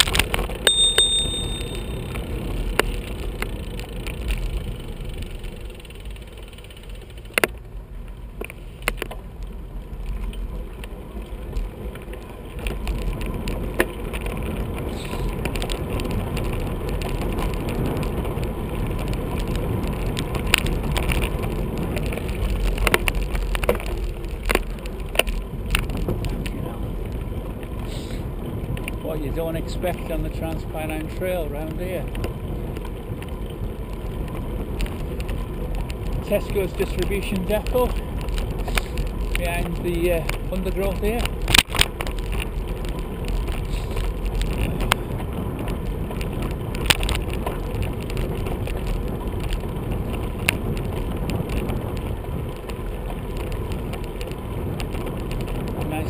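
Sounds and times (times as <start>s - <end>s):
bicycle tyre noise: 0.0s - 56.0s.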